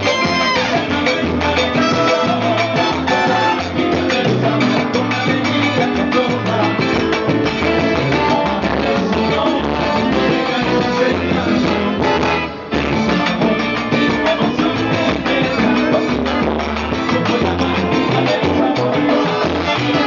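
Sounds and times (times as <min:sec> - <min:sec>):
live band with keyboard: 0:00.0 - 0:20.0.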